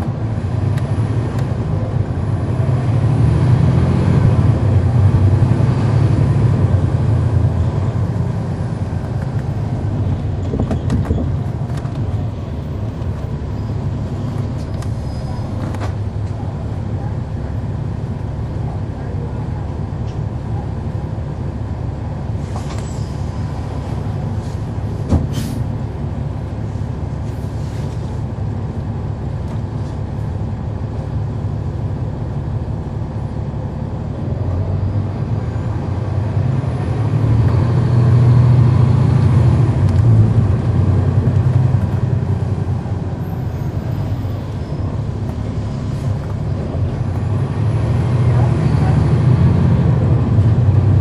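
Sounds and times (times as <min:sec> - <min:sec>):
bus diesel engine droning: 0:00.0 - 0:51.0.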